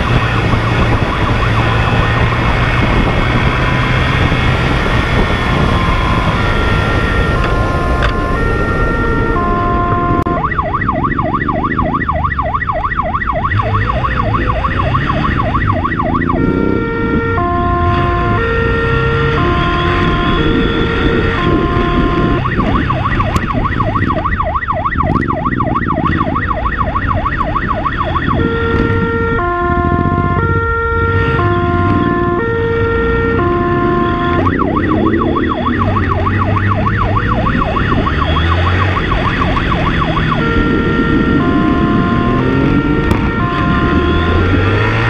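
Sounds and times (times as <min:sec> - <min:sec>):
police siren two-tone and warble: 0:00.0 - 0:45.0.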